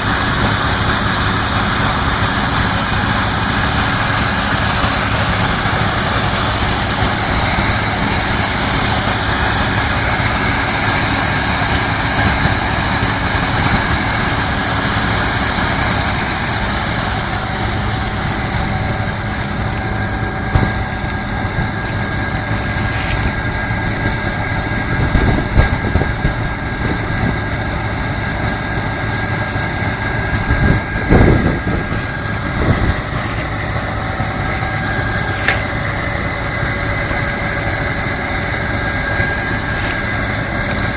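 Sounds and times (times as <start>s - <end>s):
harvest machinery engine drone: 0.0s - 40.9s
heavy low rumble: 0.0s - 40.9s
thin constant whine: 0.0s - 40.9s.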